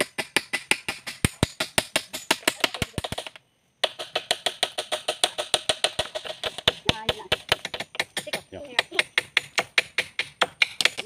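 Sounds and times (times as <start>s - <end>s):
hammer knocking on wood: 0.0s - 11.0s.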